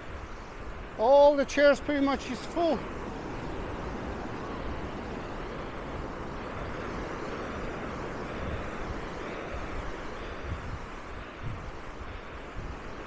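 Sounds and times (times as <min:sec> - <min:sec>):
surf on a sandy beach: 0:00.0 - 0:13.0
wind rumbling on microphone: 0:00.0 - 0:13.0.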